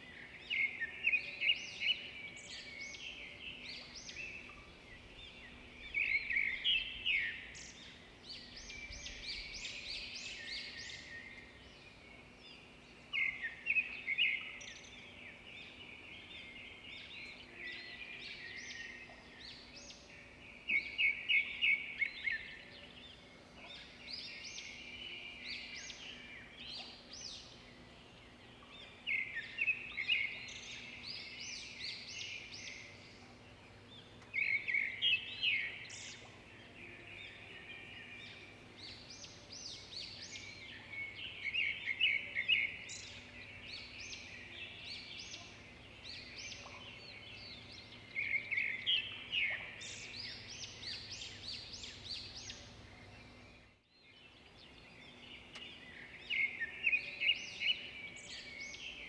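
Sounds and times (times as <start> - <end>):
birds chirping: 0.3 - 59.0.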